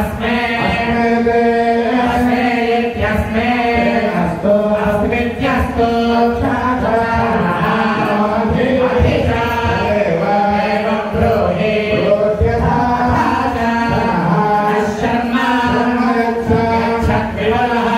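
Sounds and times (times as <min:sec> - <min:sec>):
men chanting together: 0:00.0 - 0:17.9.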